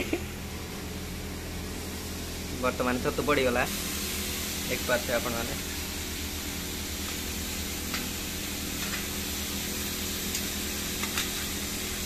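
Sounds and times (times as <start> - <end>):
mushrooms sizzling in oil: 0.5 - 12.0.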